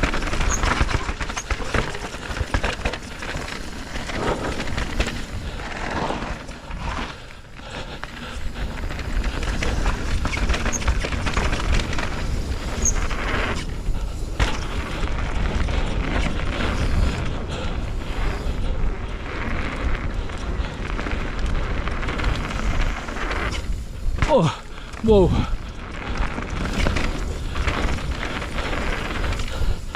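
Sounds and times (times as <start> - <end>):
bike clattering on rough trail: 0.0 - 29.9.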